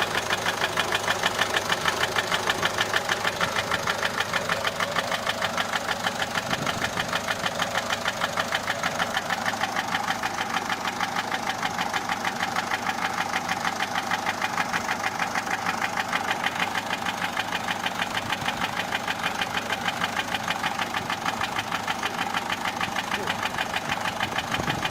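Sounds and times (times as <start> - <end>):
diesel engine idling with knock: 0.0 - 24.9.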